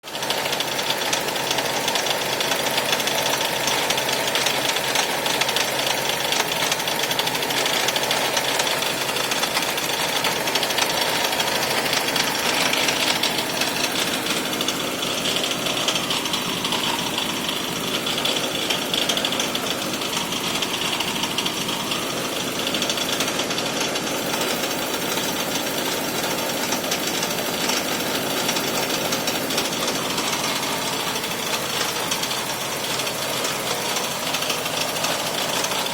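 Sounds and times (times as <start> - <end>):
car engine rough idle rattling: 0.0 - 35.9.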